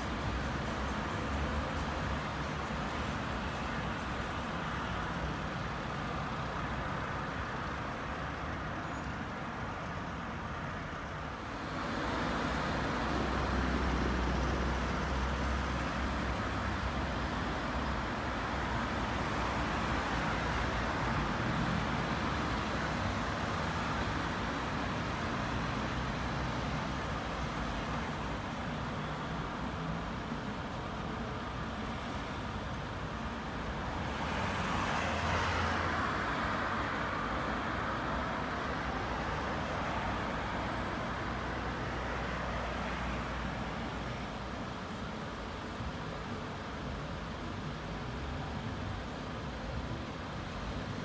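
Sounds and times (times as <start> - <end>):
passing traffic: 0.0 - 51.0.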